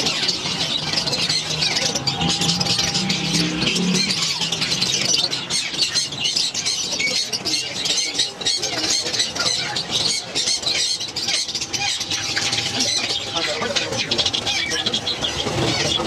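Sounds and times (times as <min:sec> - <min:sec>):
finches chirping and twittering: 0:00.0 - 0:16.0.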